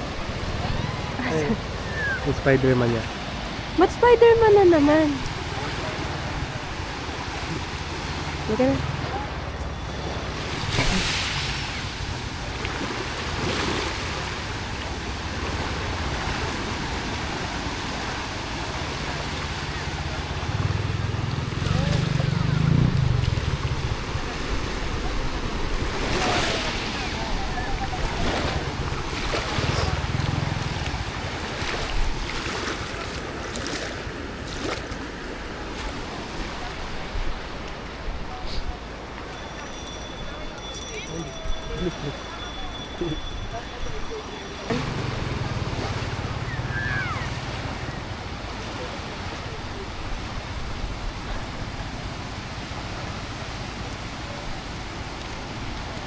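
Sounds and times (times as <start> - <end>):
ocean surf washing onto shore: 0.0 - 56.0.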